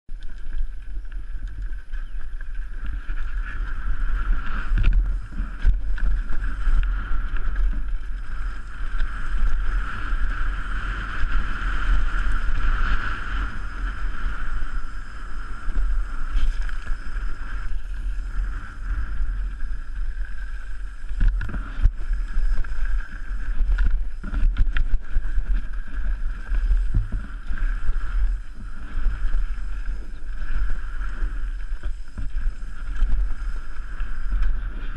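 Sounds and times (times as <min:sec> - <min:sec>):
bike rattling over gravel: 0:00.1 - 0:34.9
wind buffeting microphone: 0:00.1 - 0:34.9.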